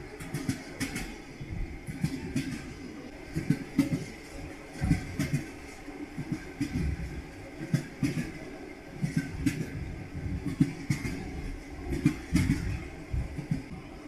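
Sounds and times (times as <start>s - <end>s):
train wheels clacking over rail joints: 0.0s - 13.9s
train rumble: 0.0s - 14.0s.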